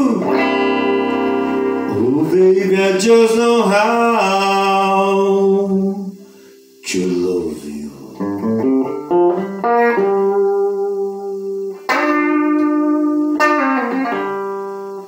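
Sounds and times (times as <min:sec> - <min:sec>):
electric guitar blues phrase: 0:00.0 - 0:15.0.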